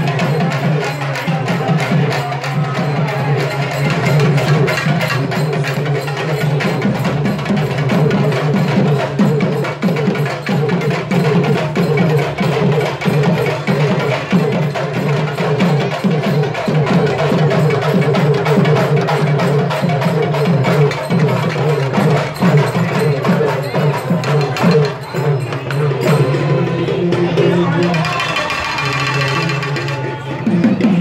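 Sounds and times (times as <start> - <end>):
drum troupe playing fast rhythm: 0.0 - 31.0.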